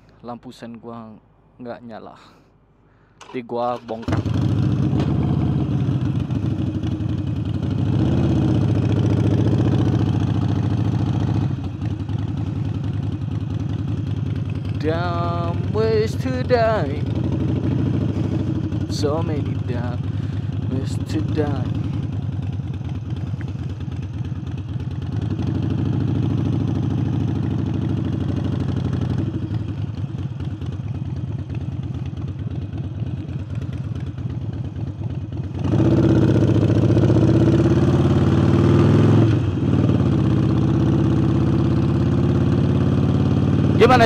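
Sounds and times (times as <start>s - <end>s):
motorcycle engine running: 3.8s - 44.0s.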